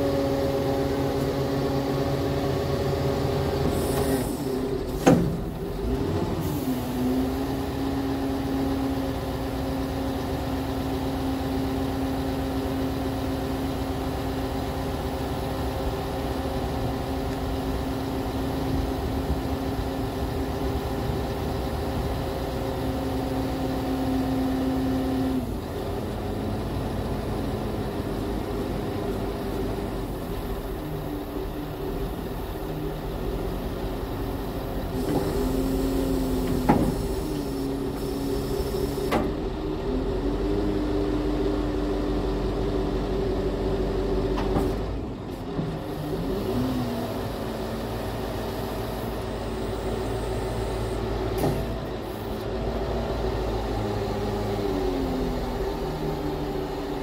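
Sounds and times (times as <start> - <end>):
truck engine and hydraulic pump humming: 0.0 - 57.0.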